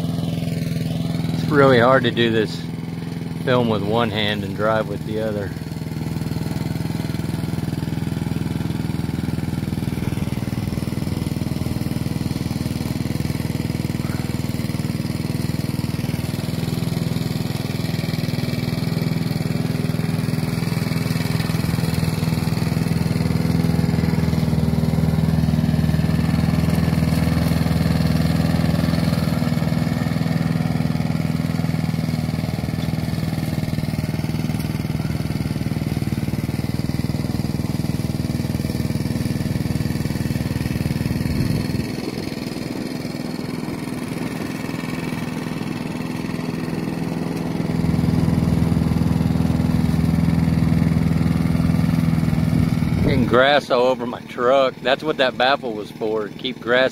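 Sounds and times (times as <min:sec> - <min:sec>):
push mower engine running: 0:00.0 - 0:56.9.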